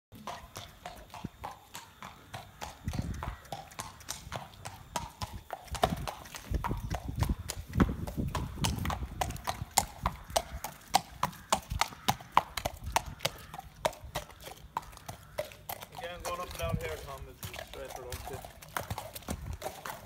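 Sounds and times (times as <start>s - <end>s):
horse hooves clip-clopping: 0.1s - 20.0s.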